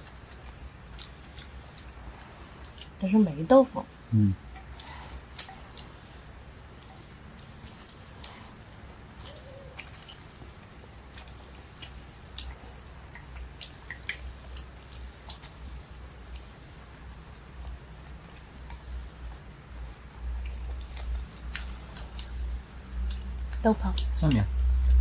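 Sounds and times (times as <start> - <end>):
person chewing food: 0.0 - 3.0, 4.1 - 25.0
small eating clicks: 0.0 - 25.0
steady low hum: 0.0 - 25.0.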